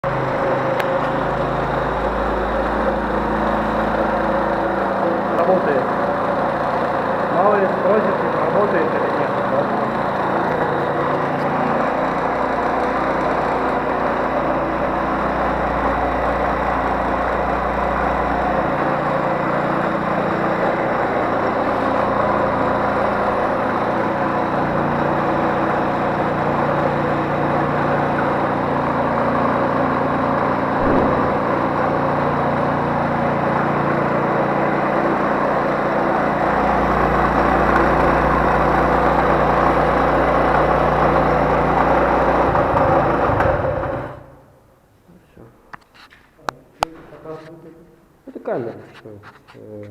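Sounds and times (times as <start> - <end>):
scooter engine running: 0.0 - 44.4.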